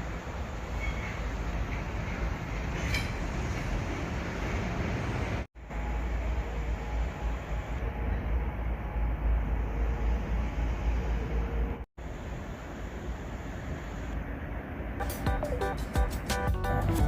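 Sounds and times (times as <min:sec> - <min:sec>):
road vehicle rumble: 0:00.0 - 0:17.0
traffic hiss: 0:00.0 - 0:17.0.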